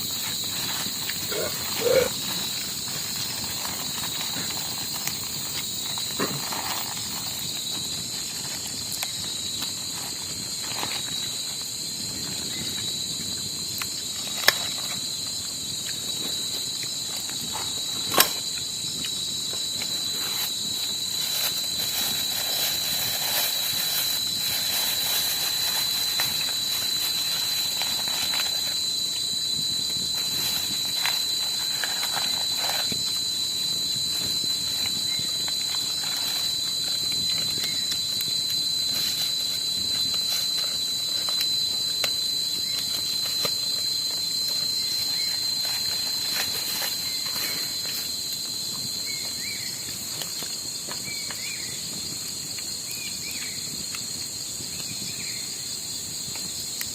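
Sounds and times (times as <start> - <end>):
insect chorus: 0.0 - 56.9.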